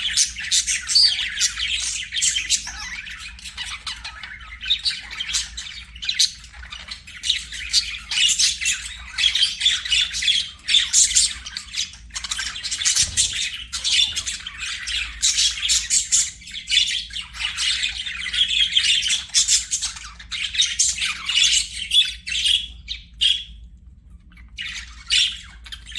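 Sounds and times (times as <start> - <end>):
budgerigars chattering and warbling: 0.0 - 25.9.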